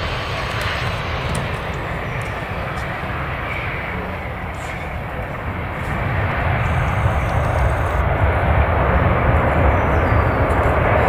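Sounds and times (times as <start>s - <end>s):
jet engines rushing: 0.0s - 11.0s.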